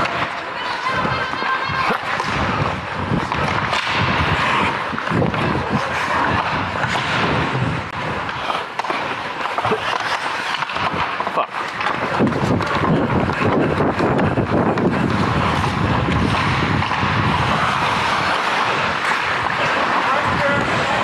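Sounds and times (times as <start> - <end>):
hockey sticks and puck clacking: 0.0 - 21.0
skates scraping on ice: 0.0 - 21.0.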